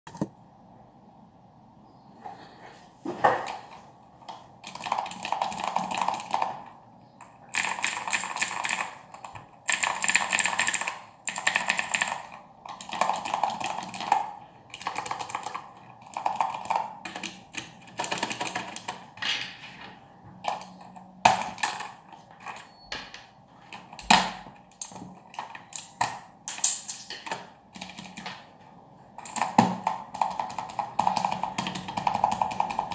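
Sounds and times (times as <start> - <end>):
clicky mechanical keyboard typing: 4.2 - 19.6, 20.4 - 28.6, 29.2 - 32.9.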